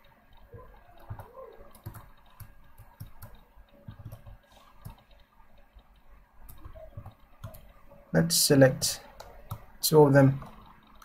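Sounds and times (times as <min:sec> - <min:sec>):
computer mouse clicks: 0:00.0 - 0:08.1, 0:08.8 - 0:11.0.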